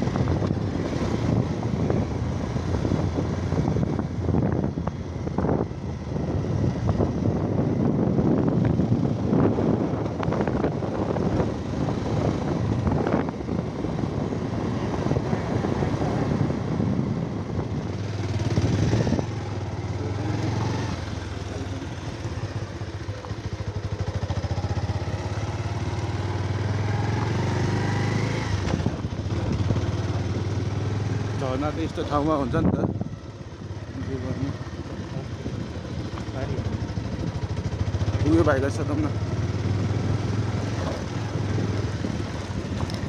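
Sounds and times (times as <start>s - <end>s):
motorcycle engine running: 0.0s - 43.0s
rough road noise: 0.0s - 43.0s
wind: 0.0s - 43.0s.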